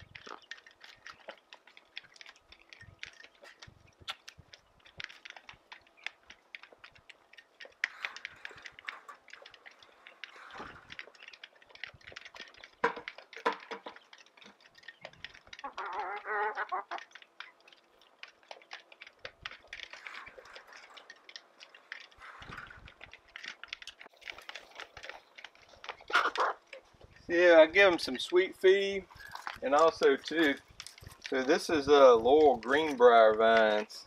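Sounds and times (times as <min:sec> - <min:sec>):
goats chewing and crunching: 0:00.0 - 0:34.0.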